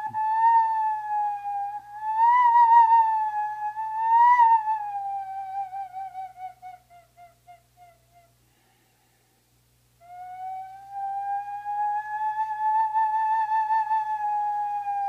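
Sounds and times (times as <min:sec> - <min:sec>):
stone flute whistling note: 0:00.0 - 0:08.4, 0:10.0 - 0:15.0.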